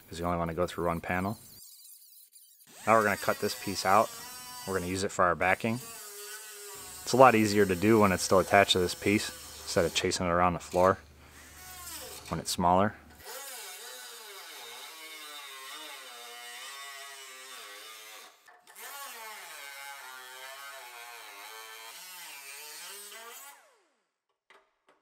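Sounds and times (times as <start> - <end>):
cut-off disc cutting sheet steel: 0.1 - 12.4, 13.2 - 23.6.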